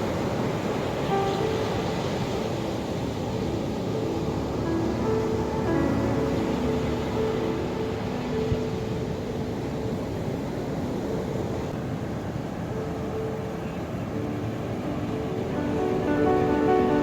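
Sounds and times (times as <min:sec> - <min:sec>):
ocean waves and surf rushing: 0:00.0 - 0:17.0.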